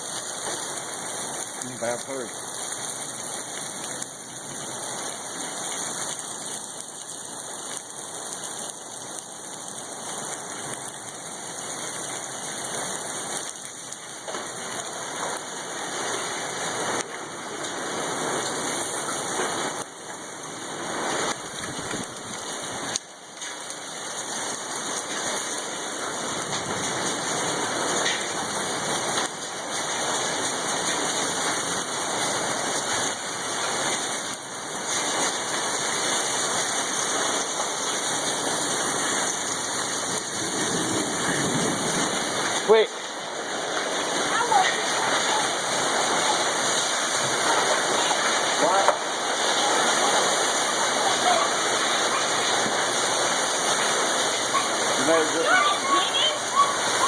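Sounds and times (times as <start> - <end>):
hail and rain pelting down: 0.0 - 57.0
wind: 0.0 - 57.0.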